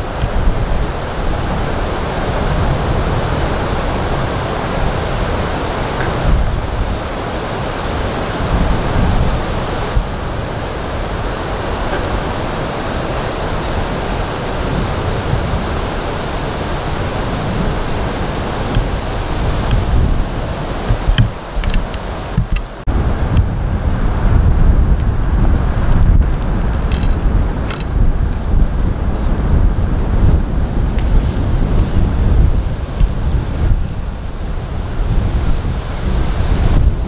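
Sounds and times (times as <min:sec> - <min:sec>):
insects chorus: 0:00.0 - 0:37.0
wind buffeting microphone: 0:00.0 - 0:37.0.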